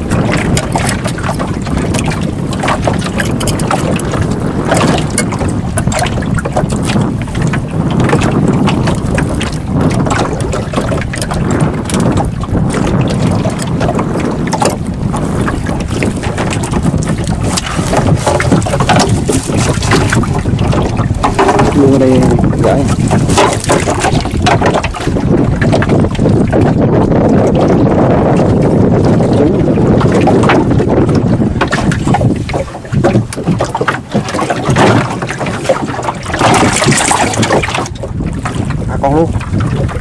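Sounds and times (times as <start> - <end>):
knocks and splashes: 0.0 - 40.0
water slapping against boat: 0.0 - 40.0
wind rumbling on microphone: 0.0 - 40.0.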